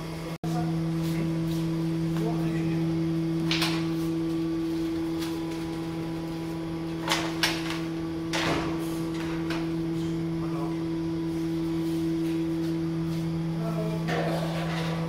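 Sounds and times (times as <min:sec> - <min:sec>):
loud steady hum: 0:00.0 - 0:15.0.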